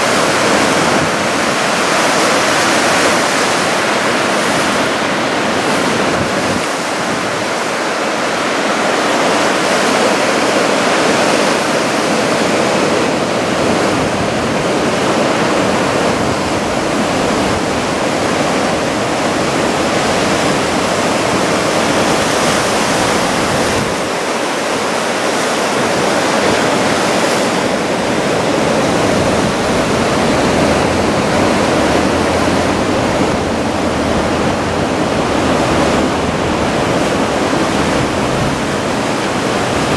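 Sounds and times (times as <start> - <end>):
heavy ocean surf breaking: 0.0 - 39.9.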